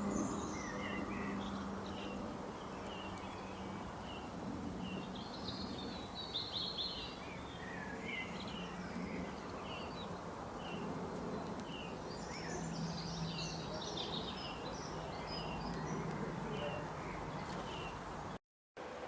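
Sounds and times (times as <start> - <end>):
small birds chirping: 0.0 - 18.4
outdoor background hiss: 0.0 - 19.0.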